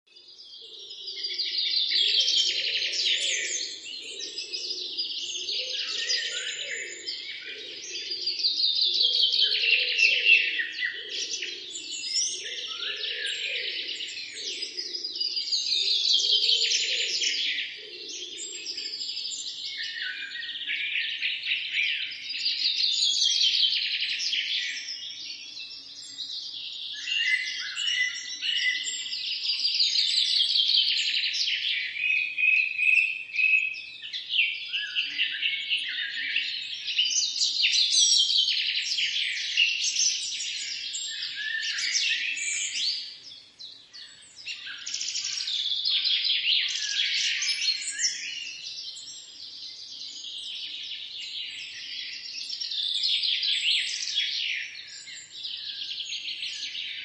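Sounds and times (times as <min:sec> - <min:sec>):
birds singing: 0:00.0 - 0:57.0.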